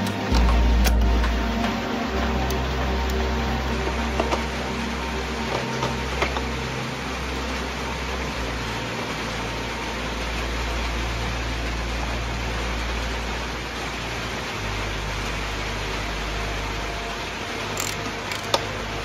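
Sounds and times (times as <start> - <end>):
droning music pad: 0.0 - 19.0
rain hiss: 0.0 - 19.0.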